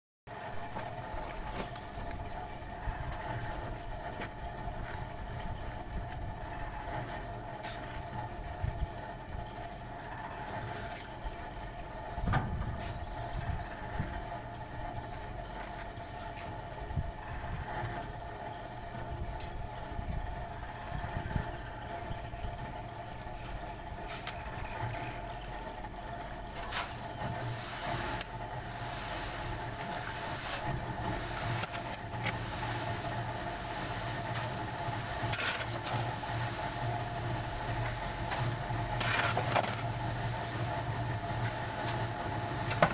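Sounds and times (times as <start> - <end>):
machine motor humming: 0.4 - 42.9.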